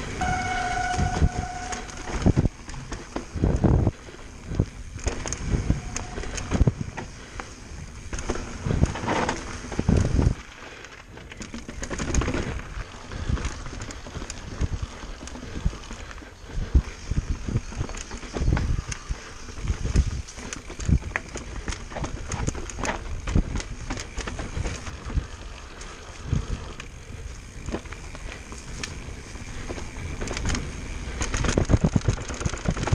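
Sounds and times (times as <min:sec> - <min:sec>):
bike rattling and knocking: 0:00.0 - 0:32.9
bike tyres rolling over dirt: 0:00.0 - 0:32.9.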